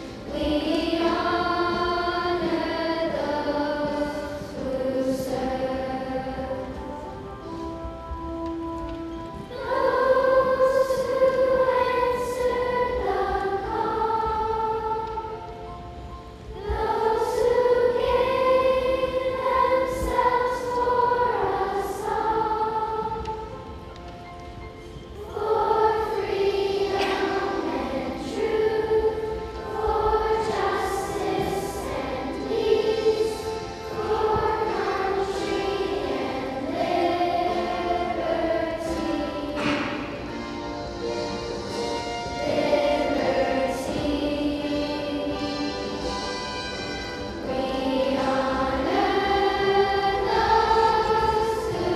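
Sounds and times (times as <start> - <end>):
children's chorus singing: 0.0 - 51.9.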